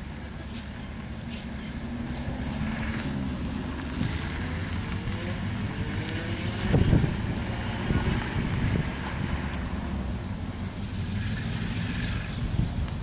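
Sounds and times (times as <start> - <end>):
diesel locomotive engine revving: 1.3 - 13.0.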